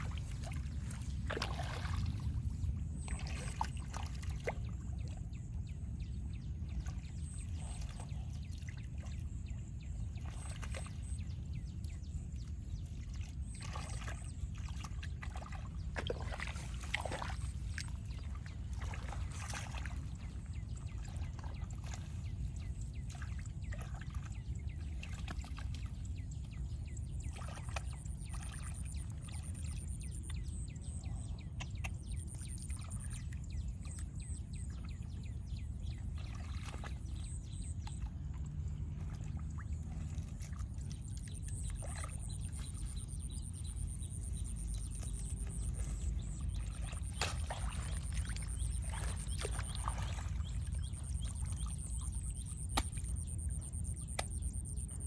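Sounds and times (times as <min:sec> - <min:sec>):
steady low rumble: 0:00.0 - 0:55.0
water splashing and trickling: 0:00.0 - 0:55.0.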